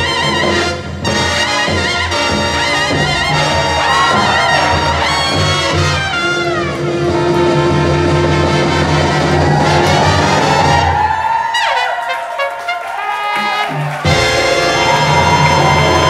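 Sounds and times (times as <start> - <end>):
brass jazz band playing: 0.0 - 16.0.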